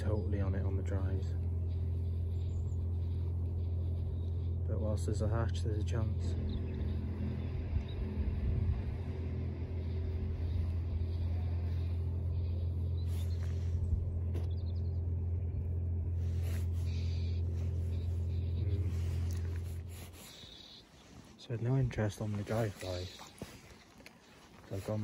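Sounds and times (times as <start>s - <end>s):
low humming rumble: 0.0s - 25.0s.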